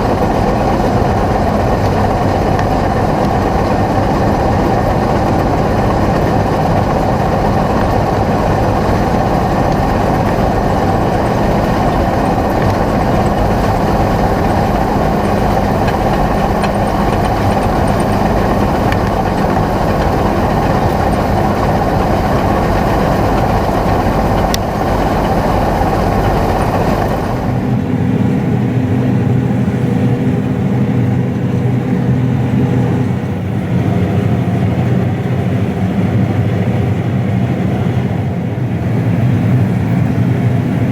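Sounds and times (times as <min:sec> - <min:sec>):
diesel farm machinery running: 0:00.0 - 0:40.9
smooth engine drone: 0:00.0 - 0:40.9.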